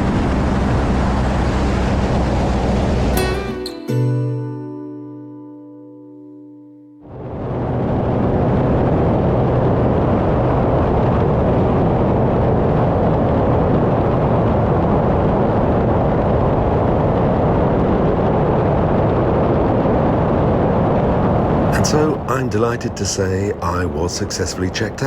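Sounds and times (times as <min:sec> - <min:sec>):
propeller plane engine drone: 0:00.0 - 0:03.2, 0:07.1 - 0:25.0.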